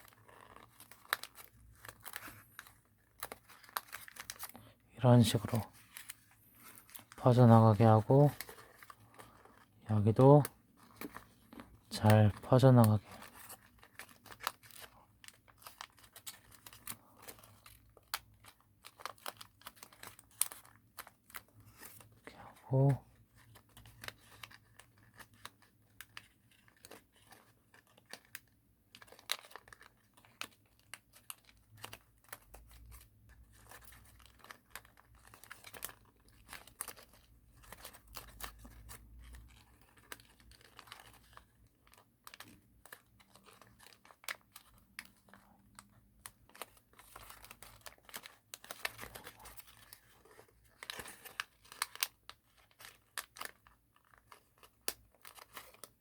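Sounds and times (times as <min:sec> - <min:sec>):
paper rustling and crinkling: 0:00.0 - 0:56.0
sharp paper crackles: 0:00.0 - 0:56.0.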